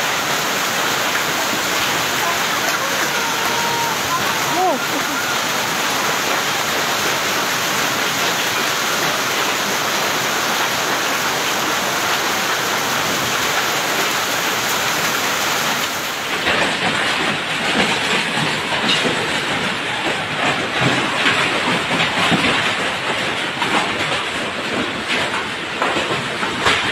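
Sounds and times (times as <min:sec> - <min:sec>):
heavy rain pouring on pavement: 0:00.0 - 0:26.9
wind-driven rain gusting: 0:00.0 - 0:26.9.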